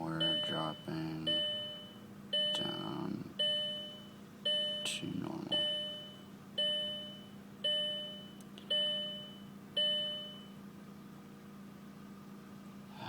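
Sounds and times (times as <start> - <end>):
car dashboard warning chime: 0.0 - 10.6.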